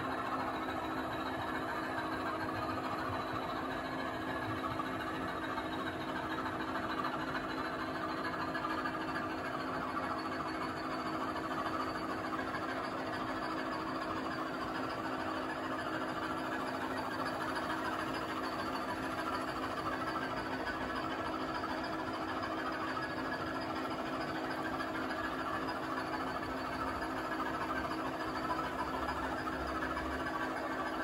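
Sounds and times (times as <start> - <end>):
model train engine drone: 0.0 - 31.0.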